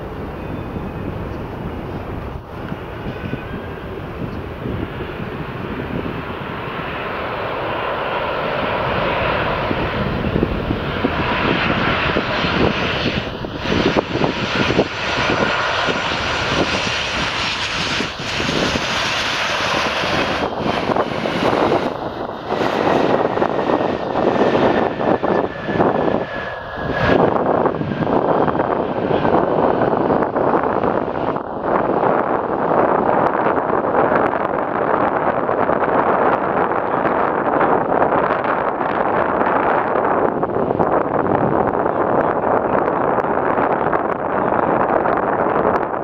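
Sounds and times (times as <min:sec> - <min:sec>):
jet engines landing: 0:00.0 - 0:46.0.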